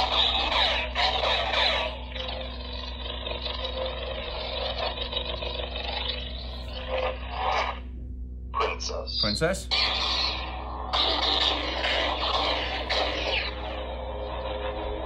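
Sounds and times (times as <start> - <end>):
lightsaber electronic hum: 0.0 - 15.0.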